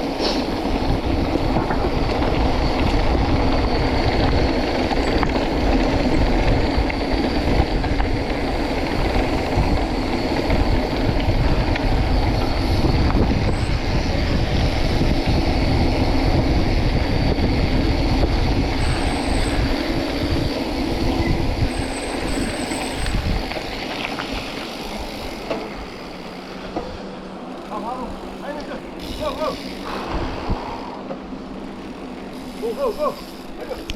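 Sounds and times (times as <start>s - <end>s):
wind buffeting camera: 0.0s - 32.0s.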